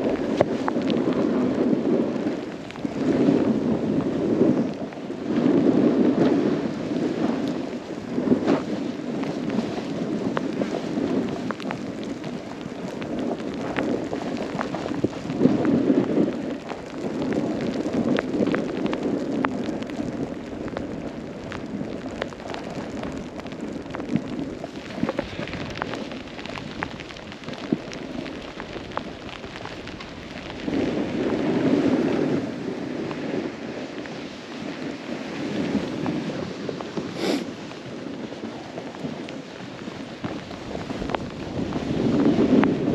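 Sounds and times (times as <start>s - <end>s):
snowboard carving on snow: 0.0s - 42.9s
wind buffeting microphone: 0.0s - 42.9s.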